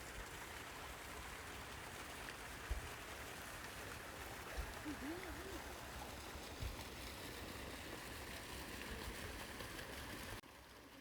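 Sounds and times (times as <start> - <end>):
water rushing into a pond: 0.0 - 11.0.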